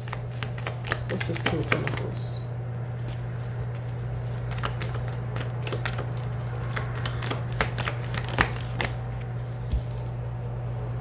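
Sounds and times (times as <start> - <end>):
cards being shuffled: 0.0 - 2.2, 3.0 - 10.1
steady low hum: 0.0 - 11.0.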